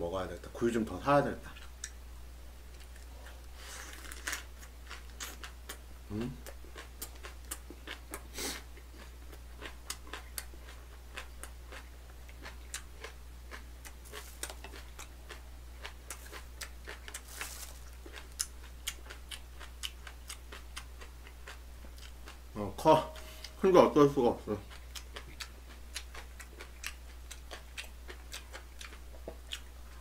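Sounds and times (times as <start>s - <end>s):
faint low hum: 0.0s - 30.0s
person chewing crunchy food: 2.7s - 22.5s, 24.5s - 30.0s.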